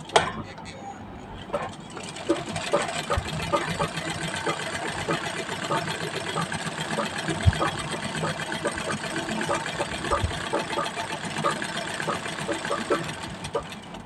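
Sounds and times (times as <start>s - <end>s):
sewing machine needle clatter: 1.5s - 14.0s.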